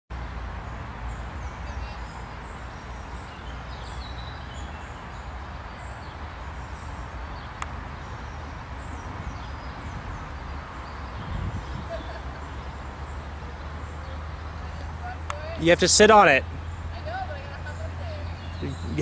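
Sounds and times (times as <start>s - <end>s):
birds chirping: 0.2s - 19.0s.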